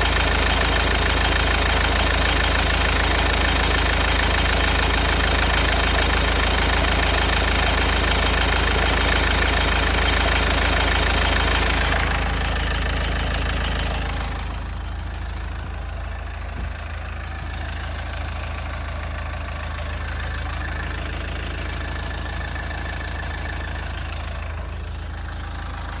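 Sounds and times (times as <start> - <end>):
car engine idling: 0.0 - 26.0
engine knock: 0.0 - 26.0.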